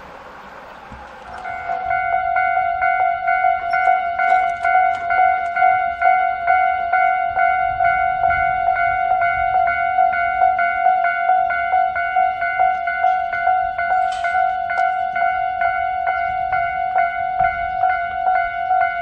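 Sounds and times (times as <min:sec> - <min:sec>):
level crossing warning bell: 0:00.0 - 0:19.0.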